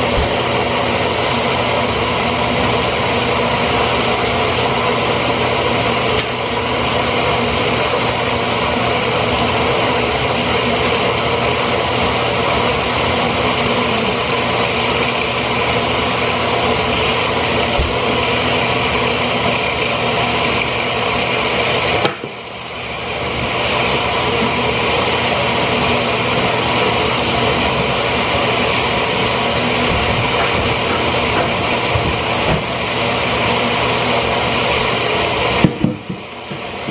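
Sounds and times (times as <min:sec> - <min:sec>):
blender motor running: 0:00.0 - 0:36.9.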